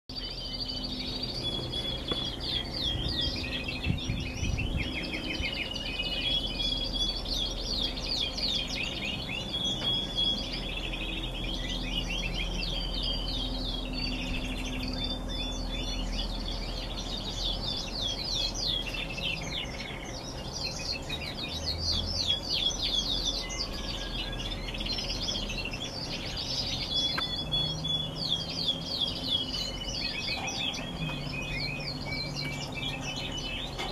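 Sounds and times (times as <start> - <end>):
canaries singing trills: 0.1 - 33.9.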